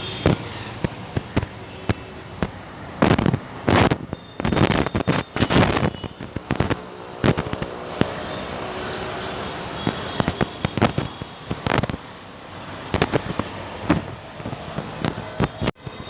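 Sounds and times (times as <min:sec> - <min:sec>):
sharp cracks and bangs: 0:00.2 - 0:08.2, 0:09.8 - 0:12.1, 0:12.8 - 0:16.0.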